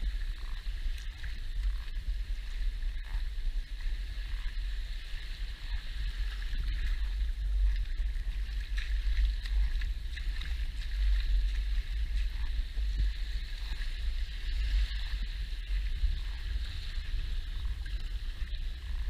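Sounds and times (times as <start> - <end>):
deep rumble: 0.0 - 19.0
small waves washing on sand: 0.0 - 19.0.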